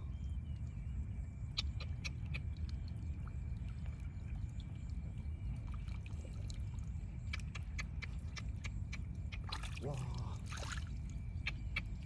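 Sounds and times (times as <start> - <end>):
water dripping: 1.6 - 12.0
water sloshing and splashing: 2.1 - 12.0.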